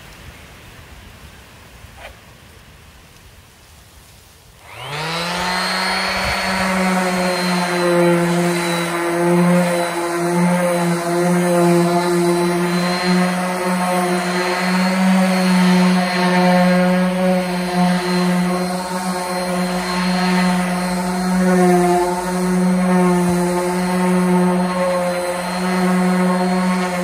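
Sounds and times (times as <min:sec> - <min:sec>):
orbital sander on wood: 0:04.6 - 0:27.0.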